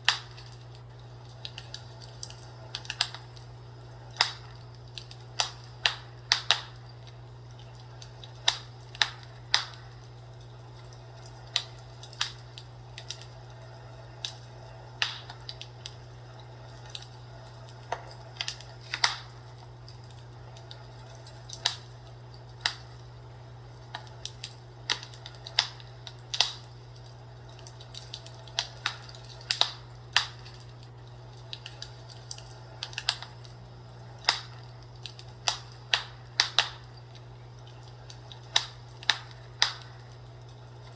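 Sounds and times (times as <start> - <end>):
fireplace crackling: 0.0 - 40.9
steady low hum: 0.0 - 40.9.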